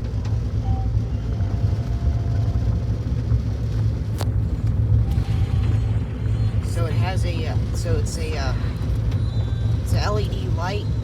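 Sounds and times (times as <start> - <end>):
car rumbling: 0.0 - 11.0.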